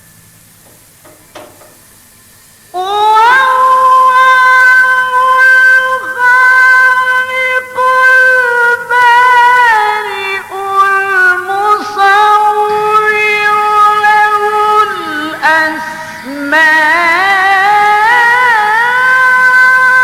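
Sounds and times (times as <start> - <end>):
melodic recitation by one voice: 2.7 - 20.0.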